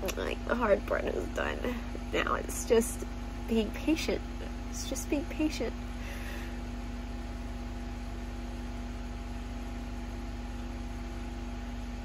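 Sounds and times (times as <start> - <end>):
electric appliance humming: 0.0 - 12.0.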